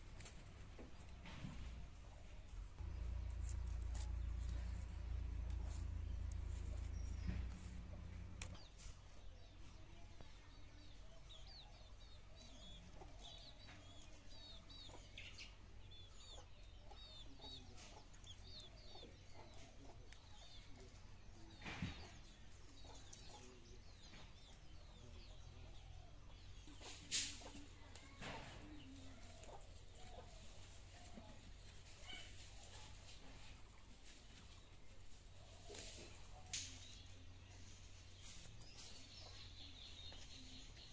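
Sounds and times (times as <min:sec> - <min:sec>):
chickens clucking: 0:00.0 - 0:40.9
small birds chirping: 0:00.0 - 0:40.9.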